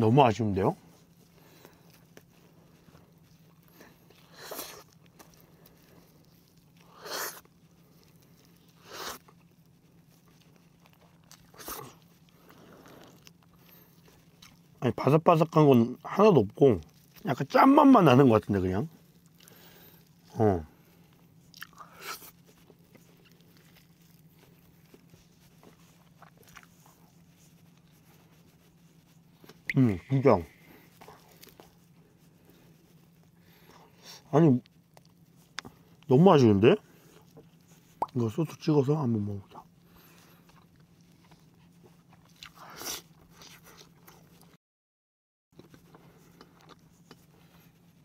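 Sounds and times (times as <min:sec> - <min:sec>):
faint steady hum: 0:00.0 - 0:44.6, 0:45.6 - 0:48.0
chewing: 0:00.4 - 0:44.6, 0:45.6 - 0:48.0.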